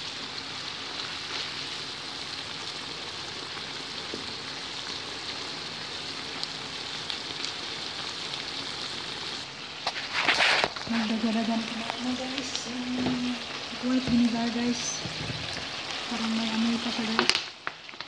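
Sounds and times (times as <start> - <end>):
meat sizzling in a pan: 0.0 - 18.0.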